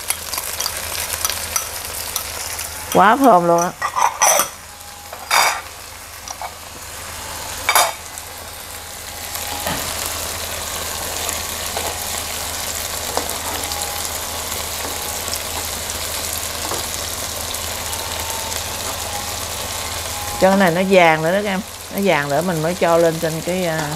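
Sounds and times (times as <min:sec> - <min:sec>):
food sizzling in a pan: 0:00.0 - 0:23.9.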